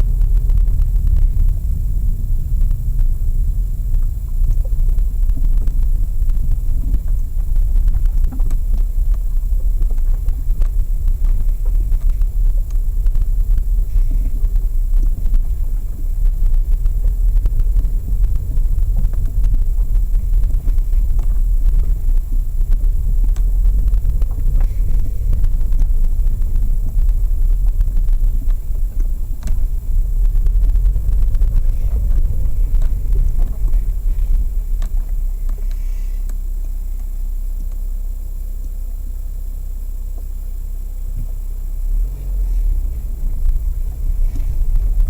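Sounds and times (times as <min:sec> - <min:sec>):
road and tyre rumble: 0:00.0 - 0:45.0.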